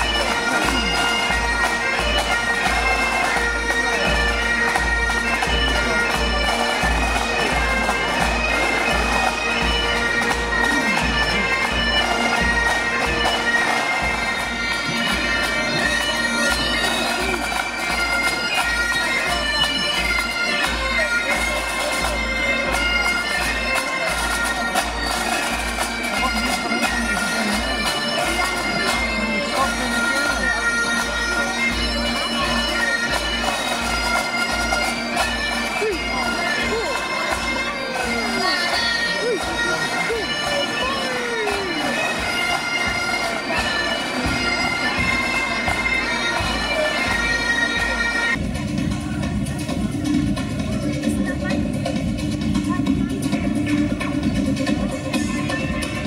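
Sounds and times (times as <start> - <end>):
bagpipes playing a march: 0.0 - 56.0.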